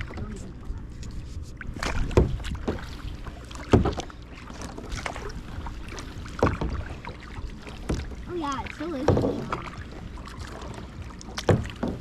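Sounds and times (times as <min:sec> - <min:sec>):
paddle strokes splashing: 0:00.0 - 0:12.0.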